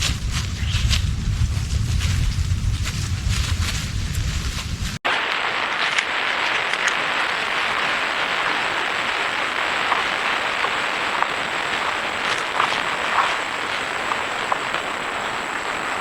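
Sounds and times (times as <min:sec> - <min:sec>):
forest ambience hiss: 0:00.0 - 0:16.0
scattered ticks and crackles: 0:00.0 - 0:16.0.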